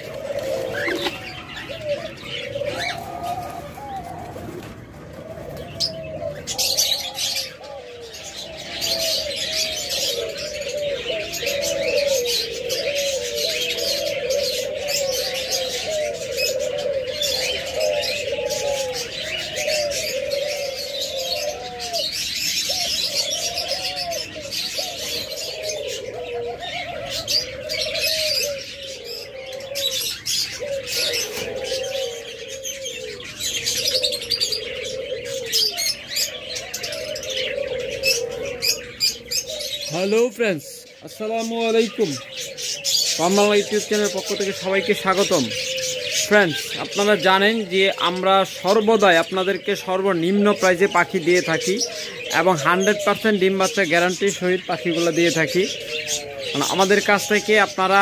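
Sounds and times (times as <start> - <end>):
doves cooing: 0.0 - 58.0
small birds chirping: 0.0 - 58.0.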